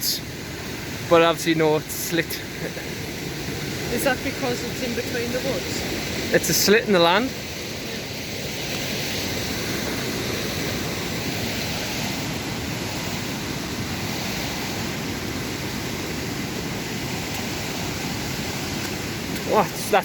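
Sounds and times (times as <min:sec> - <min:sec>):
fast-flowing stream rushing: 0:00.0 - 0:20.0
small waterfalls: 0:00.0 - 0:20.0.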